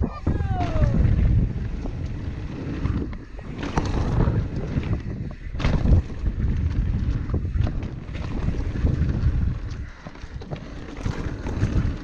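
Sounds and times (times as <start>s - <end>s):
bike knocks and rattles: 0.0s - 12.0s
mountain bike on dirt trail: 0.0s - 12.0s
wind buffeting microphone: 0.0s - 12.0s.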